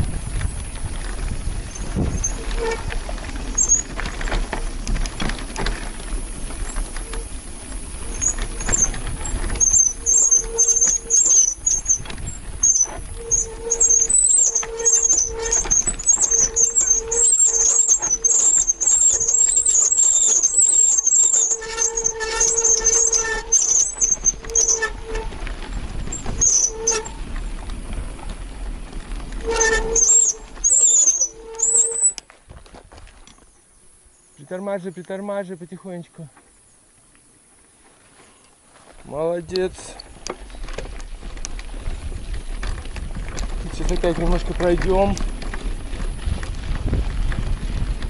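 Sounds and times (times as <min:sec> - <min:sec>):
bicycle brakes squealing: 0:00.2 - 0:32.3, 0:39.1 - 0:48.0.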